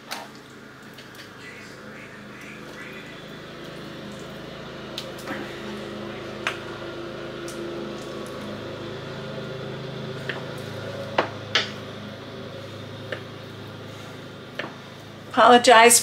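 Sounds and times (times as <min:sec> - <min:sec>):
lawnmower engine running: 0:00.0 - 0:15.6.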